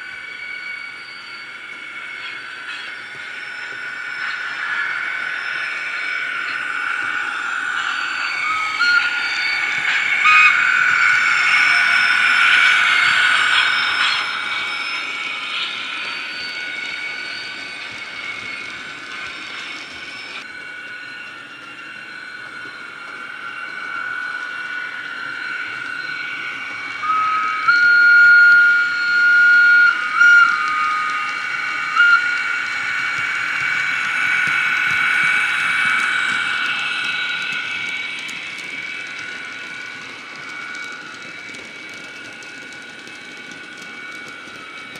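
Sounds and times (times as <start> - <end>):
high wheel squeal tones: 0.0 - 44.9.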